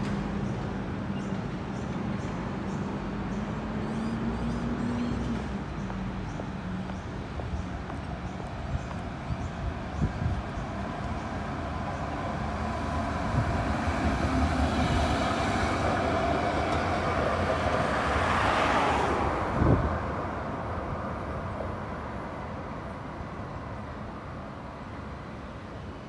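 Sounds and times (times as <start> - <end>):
tram passing by: 0.0 - 26.0.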